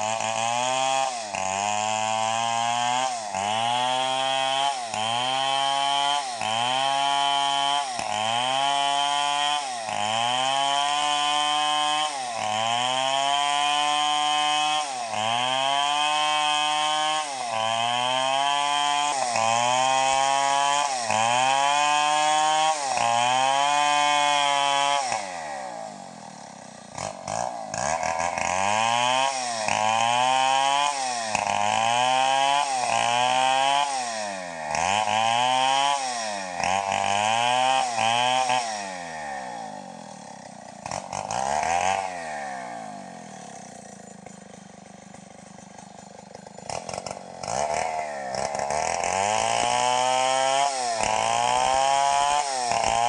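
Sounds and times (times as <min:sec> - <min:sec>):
chainsaw cutting log: 0:00.0 - 0:53.0.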